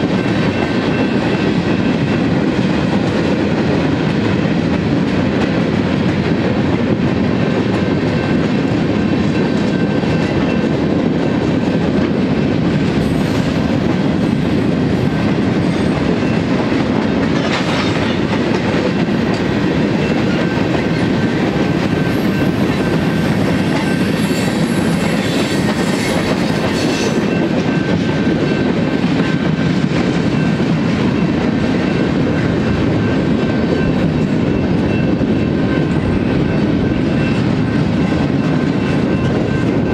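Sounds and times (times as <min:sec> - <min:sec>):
clickety-clack over rail joints: 0:00.0 - 0:39.9
freight train wheels rumbling on rail: 0:00.0 - 0:39.9.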